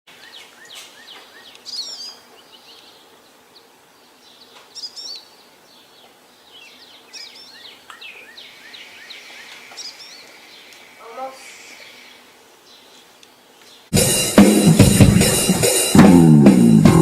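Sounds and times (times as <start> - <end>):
songbirds chirping: 0.1 - 14.0.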